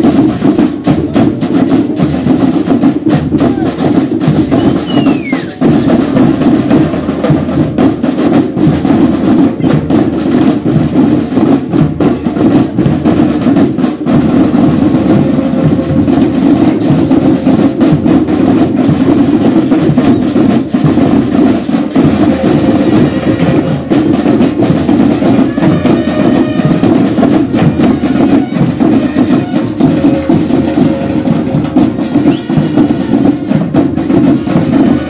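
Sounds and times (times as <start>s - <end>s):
drums beating: 0.0s - 35.0s
marching band playing: 0.0s - 35.0s.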